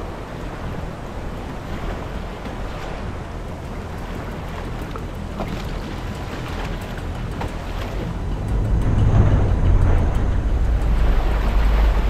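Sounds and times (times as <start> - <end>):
deep rumble: 0.0 - 12.0
rushing whitewater: 0.0 - 12.0
waves slapping against a canoe: 0.0 - 12.0.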